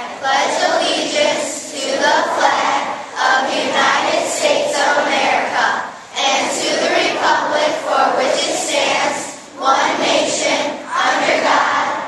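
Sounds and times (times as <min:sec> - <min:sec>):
children's voices in unison: 0:00.0 - 0:12.0.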